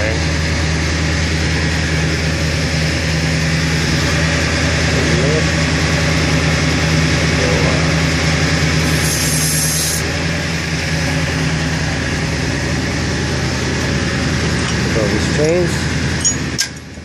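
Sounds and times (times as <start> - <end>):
hydraulic pump hum: 0.0 - 17.0
truck engine idling: 0.0 - 17.0.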